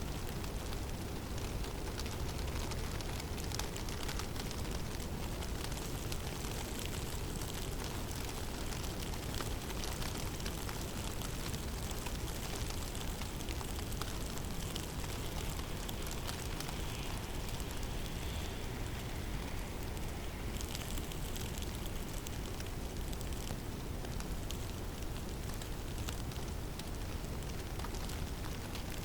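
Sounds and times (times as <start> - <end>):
snow falling patter: 0.0 - 29.0.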